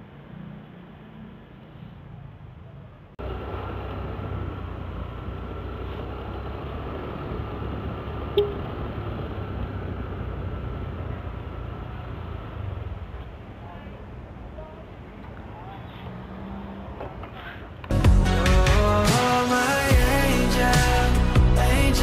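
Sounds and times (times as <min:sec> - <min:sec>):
road noise: 0:00.0 - 0:22.0
scooter engine hum: 0:00.0 - 0:22.0.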